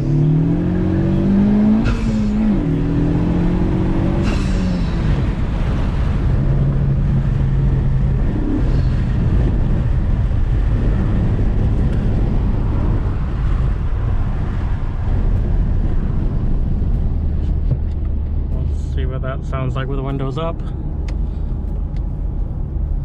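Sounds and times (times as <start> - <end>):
wind noise: 0.0 - 18.9
car engine cruising: 0.0 - 23.0
road noise: 0.0 - 23.0.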